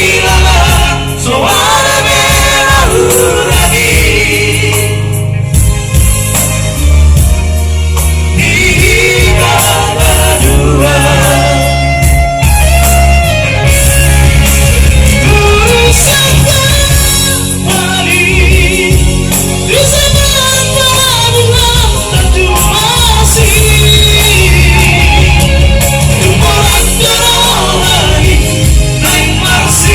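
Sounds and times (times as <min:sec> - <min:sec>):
vocal trio singing: 0:00.0 - 0:05.8, 0:08.0 - 0:12.5, 0:15.0 - 0:29.9
band with strong bass: 0:00.0 - 0:29.9.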